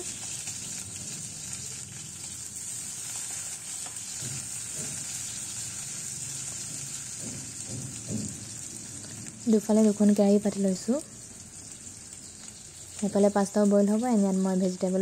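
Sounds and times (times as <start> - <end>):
onion sizzling in hot oil: 0.0 - 15.0.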